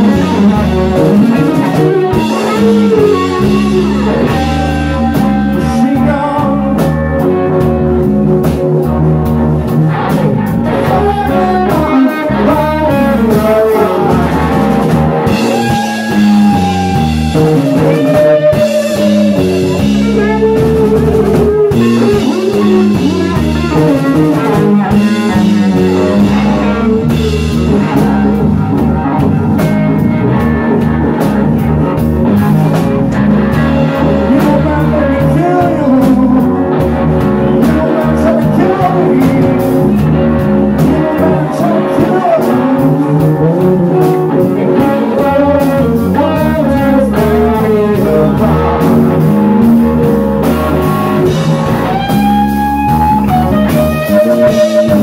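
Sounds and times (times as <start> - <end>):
bass guitar: 0.0 - 55.0
drum kit: 0.0 - 55.0
electric guitar with bending notes: 0.0 - 55.0.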